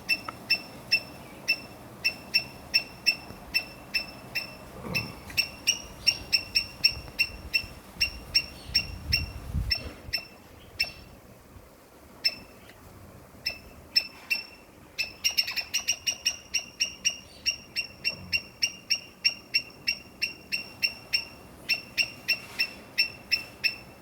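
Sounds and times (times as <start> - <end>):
bird chipping: 0.0 - 11.2, 12.2 - 12.7, 13.4 - 24.0.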